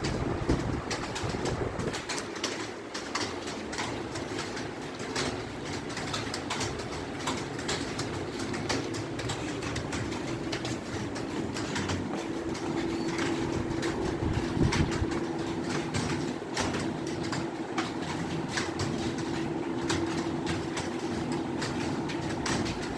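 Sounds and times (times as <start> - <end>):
fast typing on keyboard: 0.0 - 22.9
steady low hum: 0.0 - 22.9.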